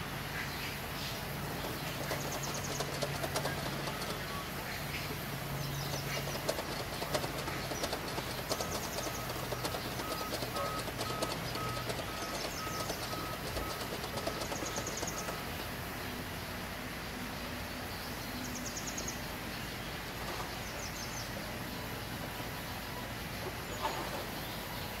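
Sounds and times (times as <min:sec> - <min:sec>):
sawmill machinery hum: 0:00.0 - 0:25.0
small birds chirping trills: 0:00.4 - 0:25.0.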